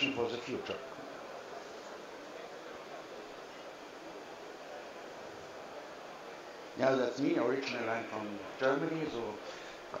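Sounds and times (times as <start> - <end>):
exhibition hall hiss: 0.0 - 10.0.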